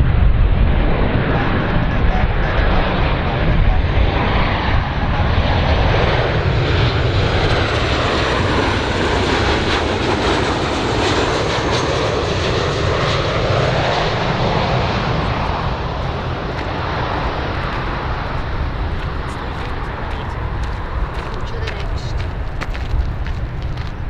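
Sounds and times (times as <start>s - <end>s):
jet plane passing low: 0.0s - 24.0s.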